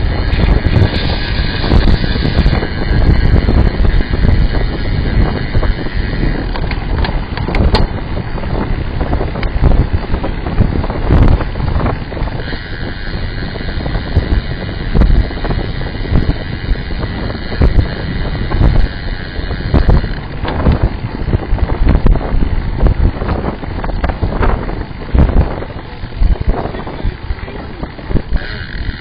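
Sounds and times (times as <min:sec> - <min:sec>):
road noise: 0:00.0 - 0:29.0
wind buffeting microphone: 0:00.0 - 0:29.0.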